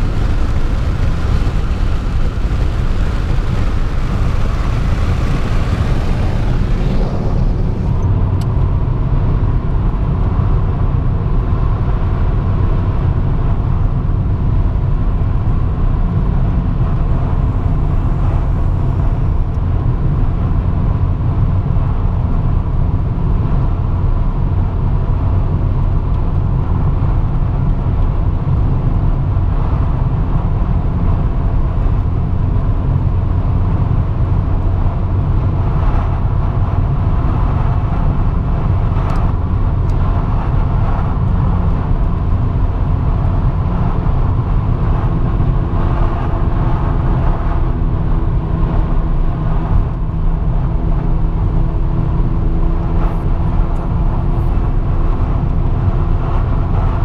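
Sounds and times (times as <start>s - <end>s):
car road rumble: 0.0s - 57.0s.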